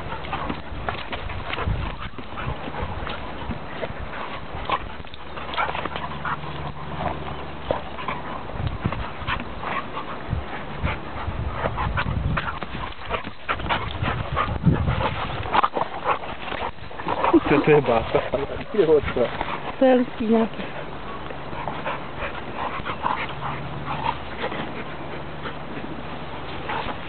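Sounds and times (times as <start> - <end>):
dogs play-fighting: 0.0 - 27.0
scuffling noises: 0.0 - 27.0.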